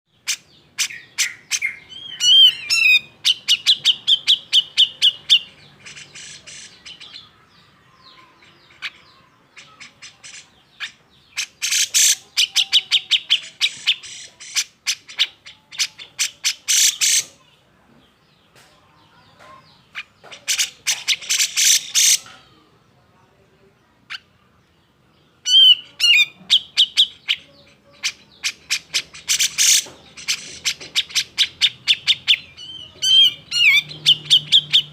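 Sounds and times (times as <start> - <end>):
bird harsh chatter and whistles: 0.2 - 17.6, 19.4 - 22.4, 25.4 - 34.9.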